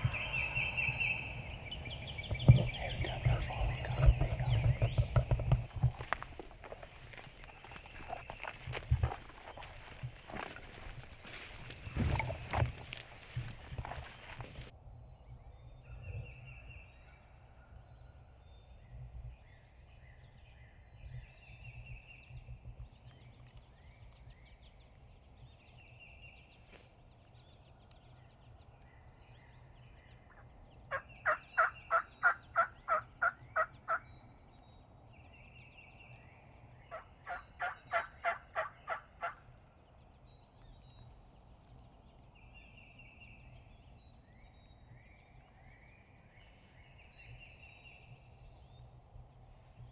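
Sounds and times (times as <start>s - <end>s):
small birds chirping faintly: 0.0s - 49.9s.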